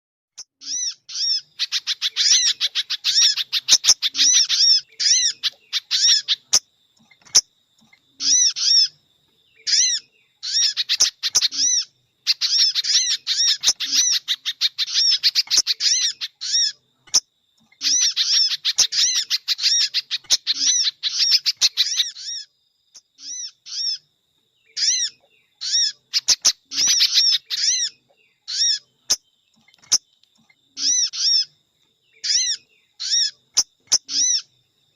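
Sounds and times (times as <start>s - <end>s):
birds chirping high notes: 0.4s - 7.5s, 8.1s - 34.9s.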